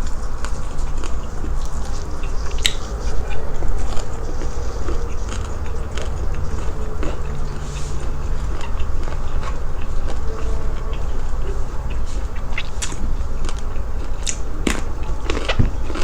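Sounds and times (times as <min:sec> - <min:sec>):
chewing crispy pork fat: 0:00.0 - 0:16.0.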